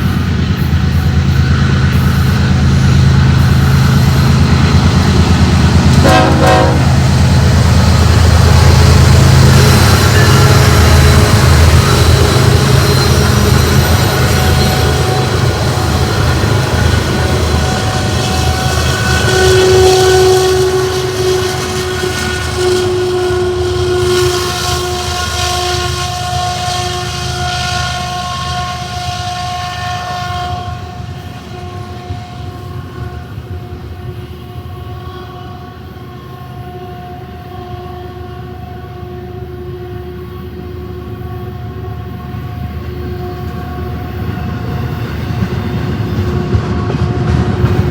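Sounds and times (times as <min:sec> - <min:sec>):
train rumbling past: 0:00.0 - 0:47.9
train air horn: 0:02.5 - 0:47.9.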